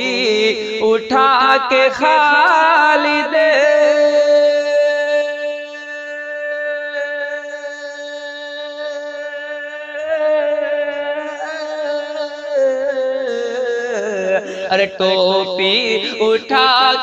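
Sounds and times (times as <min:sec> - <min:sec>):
man singing a sustained note: 0:00.0 - 0:17.0.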